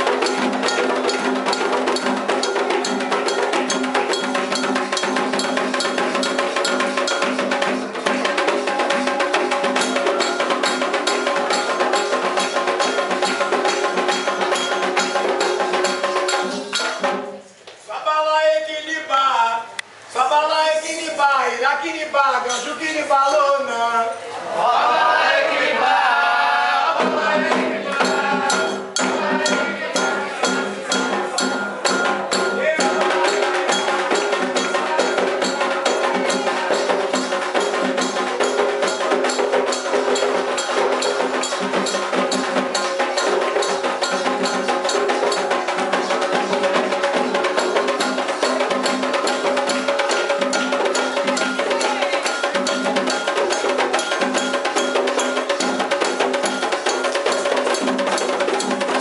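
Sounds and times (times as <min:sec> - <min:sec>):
metal bell playing rhythm: 0:00.0 - 0:17.3, 0:22.4 - 0:23.5, 0:27.4 - 0:59.0
drums playing fast rhythm: 0:00.0 - 0:17.5, 0:25.8 - 0:59.0.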